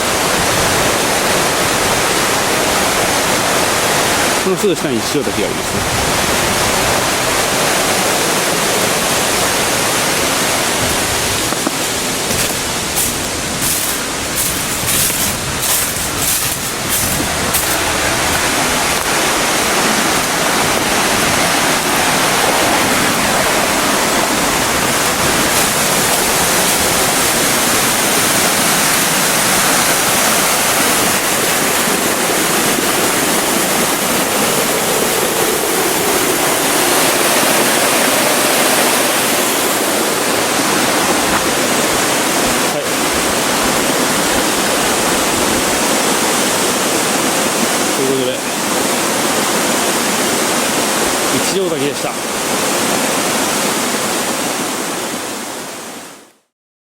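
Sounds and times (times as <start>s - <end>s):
waterfall rushing: 0.0s - 56.4s.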